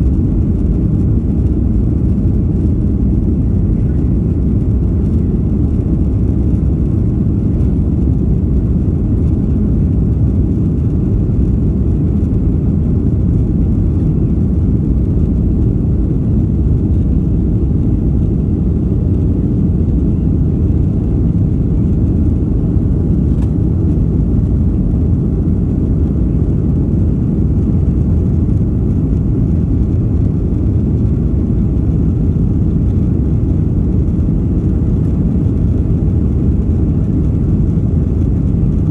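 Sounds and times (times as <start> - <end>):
jet engine and airflow rumble: 0.0 - 38.9.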